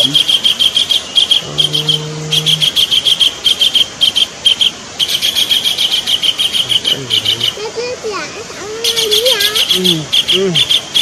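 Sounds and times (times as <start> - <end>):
kingfisher calling harsh notes: 0.0 - 11.0.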